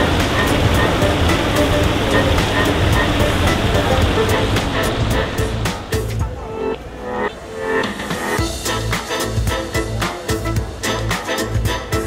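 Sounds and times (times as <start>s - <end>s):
background music with a beat: 0.0s - 12.0s
street noise: 0.0s - 12.0s.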